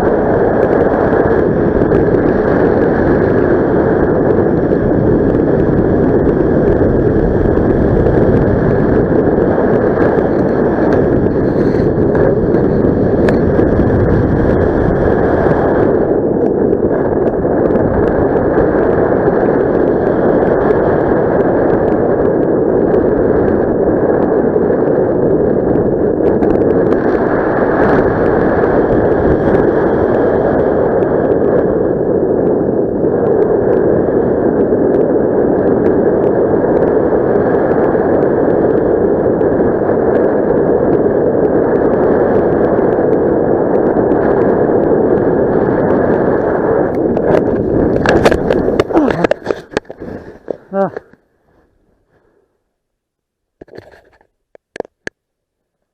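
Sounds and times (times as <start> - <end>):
wind rushing over microphone: 0.0 - 52.6.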